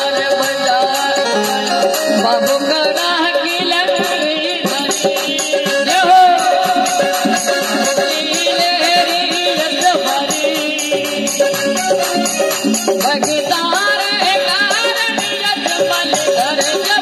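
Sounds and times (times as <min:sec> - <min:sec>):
fast hand percussion: 0:00.0 - 0:17.0
harmonium notes: 0:00.0 - 0:17.0
person singing: 0:00.0 - 0:17.0.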